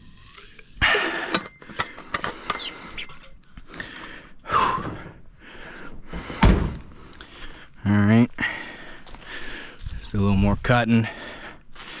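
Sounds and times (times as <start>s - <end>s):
man breathing hard: 0.8s - 10.0s, 11.0s - 12.0s.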